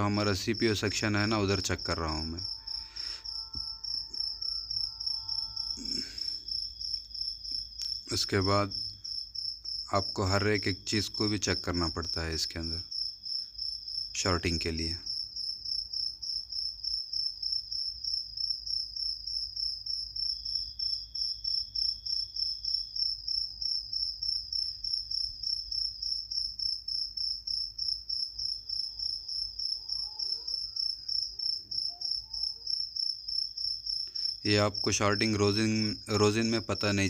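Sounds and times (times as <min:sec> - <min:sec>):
cricket chirping: 0:00.0 - 0:37.0.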